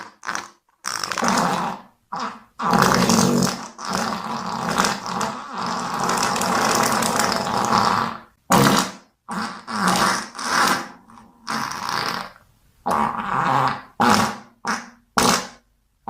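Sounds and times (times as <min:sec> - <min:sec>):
fart sound effect: 0:00.0 - 0:15.7.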